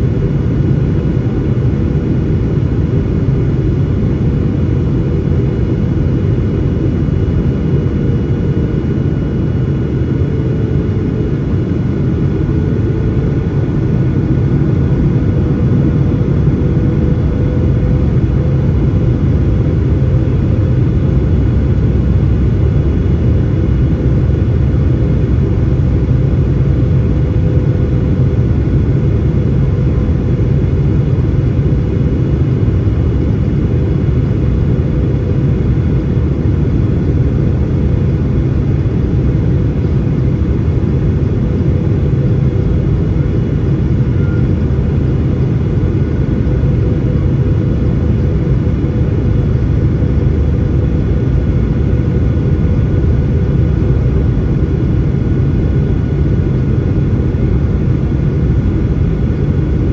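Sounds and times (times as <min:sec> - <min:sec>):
aircraft cabin rumble: 0:00.0 - 0:59.9
faint constant hum: 0:00.0 - 0:59.9.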